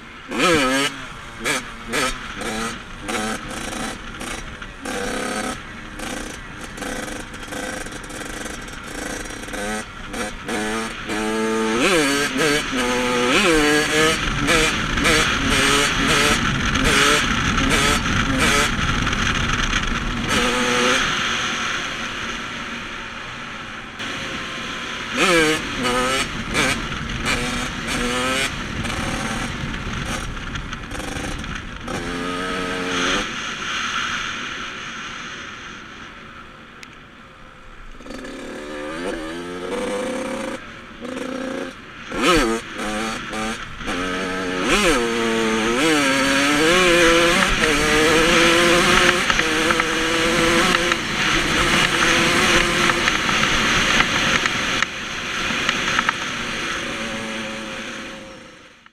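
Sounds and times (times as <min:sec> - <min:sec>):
dirt bike engine revving: 0:00.0 - 0:22.7, 0:24.0 - 0:33.8, 0:38.0 - 0:58.7.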